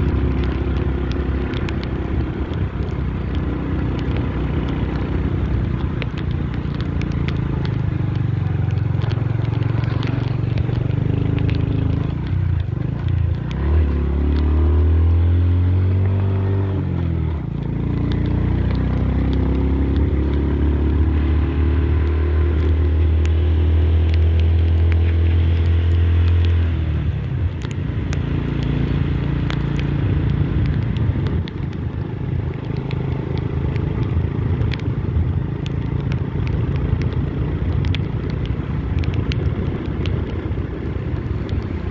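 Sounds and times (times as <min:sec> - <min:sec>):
small clicks: 0:00.0 - 0:14.5, 0:16.9 - 0:21.0, 0:22.0 - 0:23.4, 0:24.0 - 0:41.9
road and wind noise: 0:00.0 - 0:41.9.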